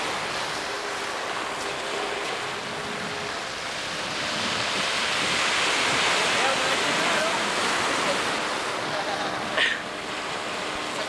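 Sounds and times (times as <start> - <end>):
faint engine hum: 0.0 - 11.0
sea water rushing: 0.0 - 11.0
wind on microphone: 0.0 - 11.0.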